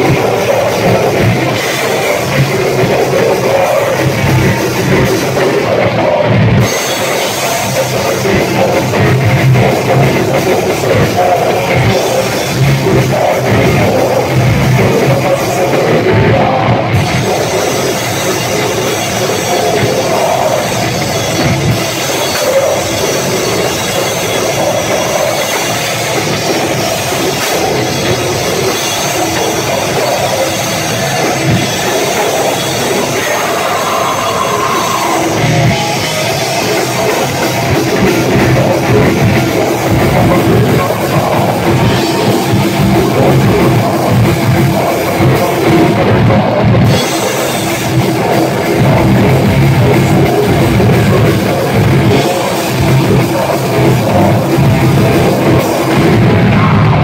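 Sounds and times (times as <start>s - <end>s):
drum kit: 0.0s - 57.0s
heavy metal band playing live: 0.0s - 57.0s.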